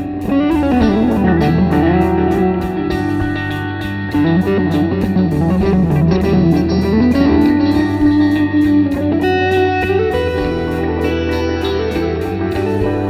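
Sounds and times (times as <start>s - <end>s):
bass: 0.0s - 13.0s
electric guitar lead melody: 0.0s - 13.0s
steady beat: 0.0s - 13.0s.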